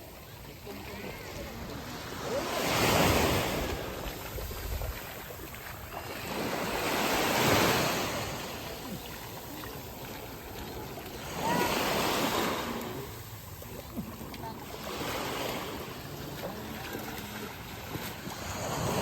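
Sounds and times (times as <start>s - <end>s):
surf breaking on a beach: 0.0s - 19.0s.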